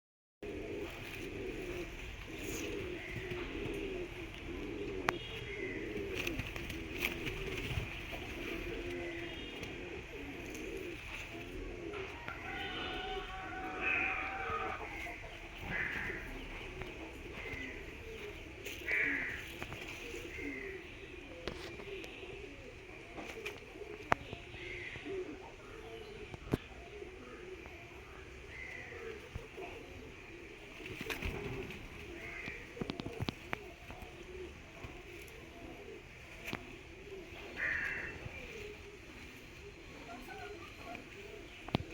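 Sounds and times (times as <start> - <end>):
pigeons cooing: 0.4 - 41.9.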